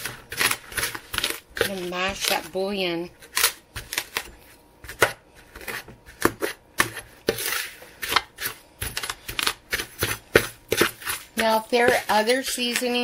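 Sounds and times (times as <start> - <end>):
utensil scraping mixing bowl: 0.0 - 13.0.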